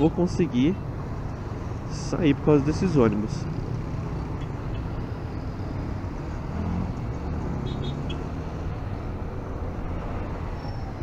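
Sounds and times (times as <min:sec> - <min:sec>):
road and traffic noise: 0:00.0 - 0:11.0.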